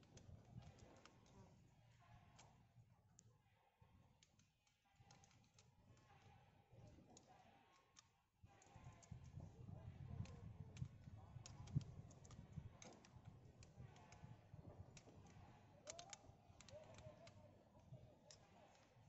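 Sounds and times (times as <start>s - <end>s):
faint tool clicks and ticks: 0.0s - 19.0s.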